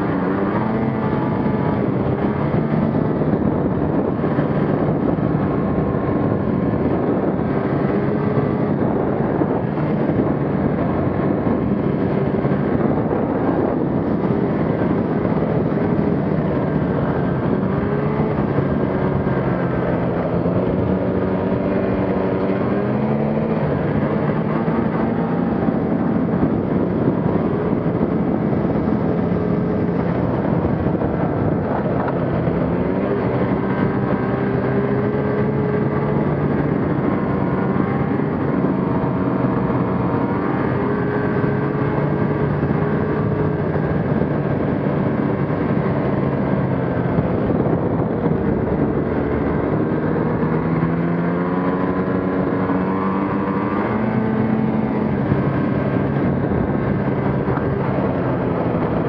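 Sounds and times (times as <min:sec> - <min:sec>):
constant rushing noise: 0:00.0 - 0:59.0
snowmobile engine running: 0:00.0 - 0:59.0.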